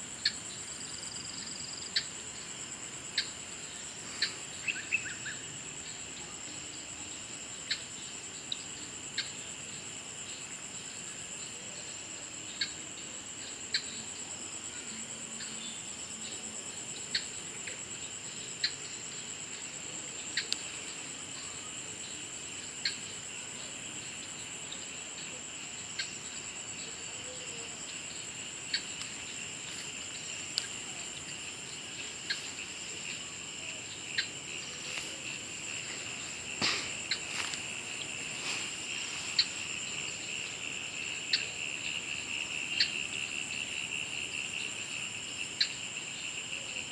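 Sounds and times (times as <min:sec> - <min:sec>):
insects trilling: 0:00.0 - 0:46.9.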